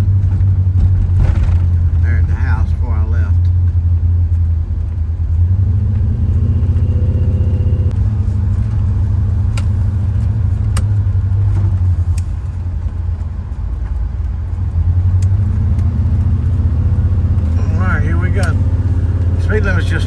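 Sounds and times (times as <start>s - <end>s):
engine running low drone: 0.0s - 20.0s.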